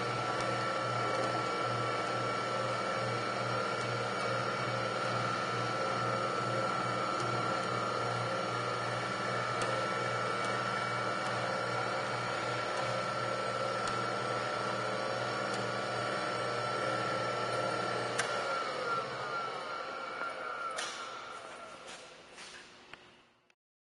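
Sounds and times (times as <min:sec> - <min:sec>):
grinder motor humming: 0:00.0 - 0:22.6.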